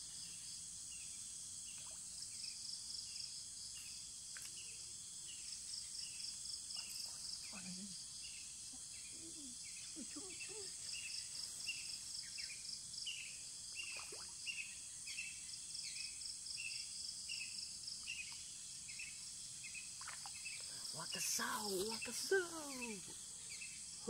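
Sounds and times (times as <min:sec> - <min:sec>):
insects buzzing chorus: 0:00.0 - 0:24.0.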